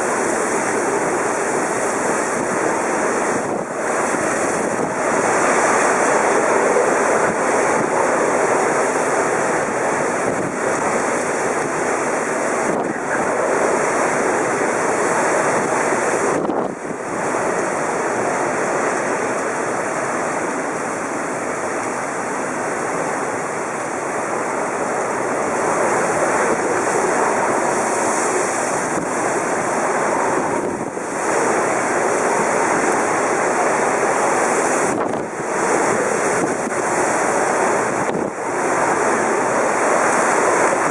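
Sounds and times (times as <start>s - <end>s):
strong wind buffeting microphone: 0.0s - 40.9s.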